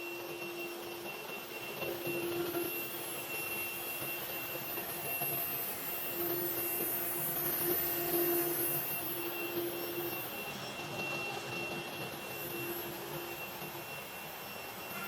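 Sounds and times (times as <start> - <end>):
cutting machine whine and hiss: 0.0 - 15.0.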